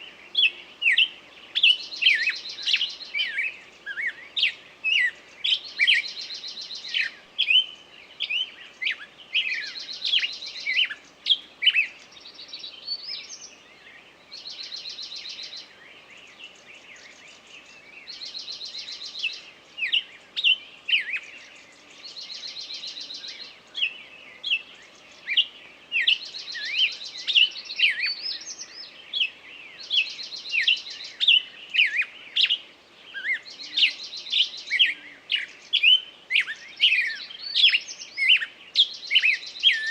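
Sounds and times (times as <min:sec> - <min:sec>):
songbird trilling: 0:00.0 - 0:13.6, 0:17.0 - 0:39.9
bird chirps: 0:00.0 - 0:39.9.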